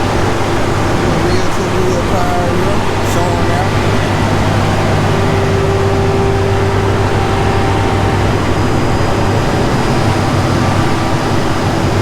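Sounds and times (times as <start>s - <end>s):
car engines idling: 0.0s - 12.0s
thin steady tone: 0.0s - 12.0s.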